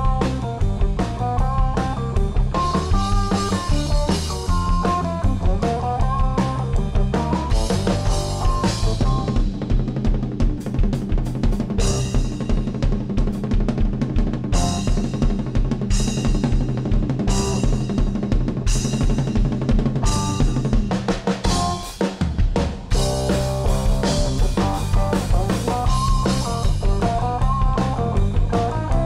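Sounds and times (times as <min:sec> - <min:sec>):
band instruments playing: 0:00.0 - 0:12.9, 0:14.5 - 0:15.4, 0:17.1 - 0:29.0
rock drum solo: 0:00.0 - 0:29.0.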